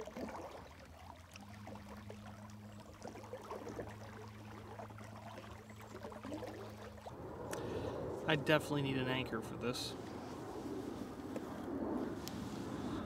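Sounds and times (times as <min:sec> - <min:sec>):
water crackling around boat: 0:00.0 - 0:13.0
aircraft drone overhead: 0:00.3 - 0:13.0.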